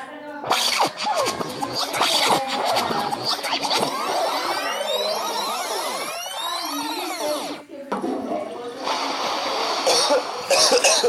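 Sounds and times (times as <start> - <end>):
swooping electronic tones: 0.4 - 11.0.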